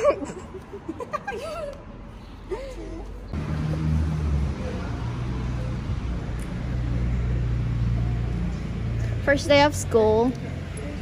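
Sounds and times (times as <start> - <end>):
low engine rumble: 0.2 - 11.0.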